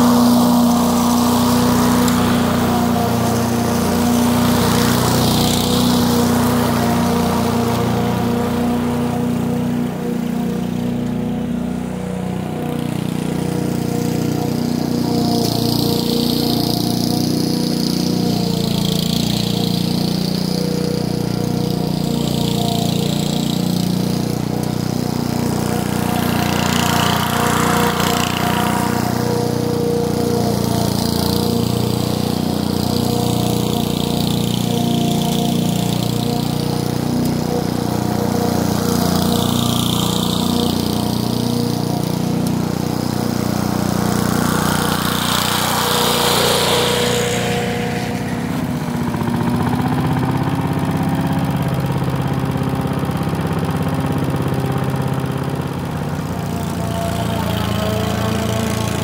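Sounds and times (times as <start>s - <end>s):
lawn mower cutting grass: 0.0s - 59.0s.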